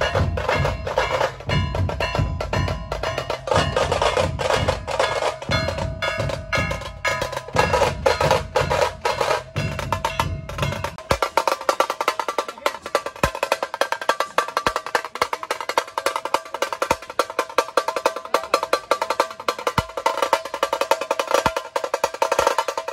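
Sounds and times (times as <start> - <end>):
deep dhol drum beats: 0.0 - 22.9
rapid tasha drum rolls: 0.0 - 22.9.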